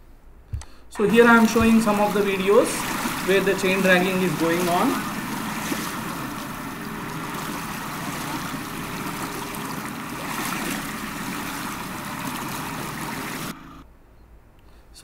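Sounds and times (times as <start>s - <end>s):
faint steady hum: 0.0s - 15.0s
rushing water: 1.0s - 13.8s.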